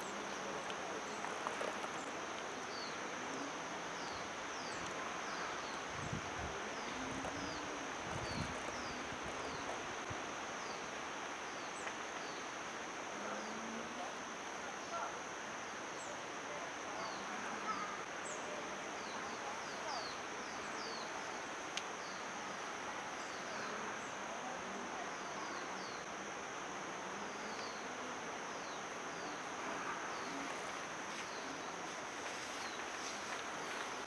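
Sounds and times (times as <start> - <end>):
background hiss: 0.0 - 34.0
high insect drone: 0.0 - 34.0.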